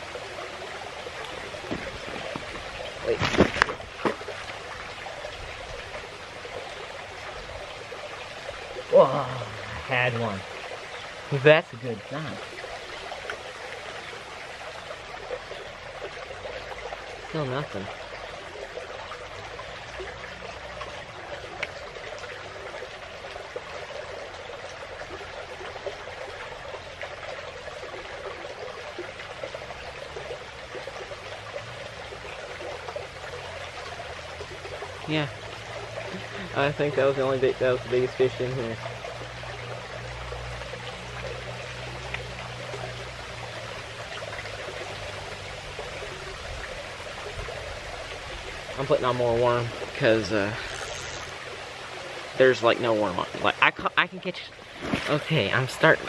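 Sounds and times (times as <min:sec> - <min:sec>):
creek water trickling: 0:00.0 - 0:56.0.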